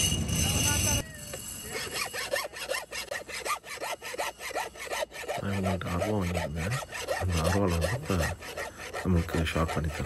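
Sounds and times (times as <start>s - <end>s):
file scraping metal blade: 0.0s - 10.0s.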